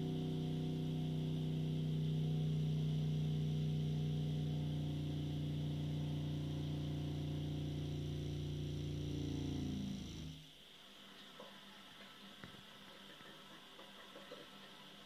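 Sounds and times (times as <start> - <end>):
faint hiss: 0.0 - 15.0
toilet droning hum: 0.0 - 15.0.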